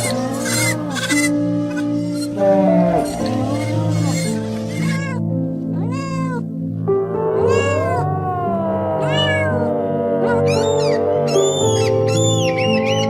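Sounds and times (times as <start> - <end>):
cat meowing: 0.0 - 6.5, 7.4 - 13.0
background music: 0.0 - 13.0.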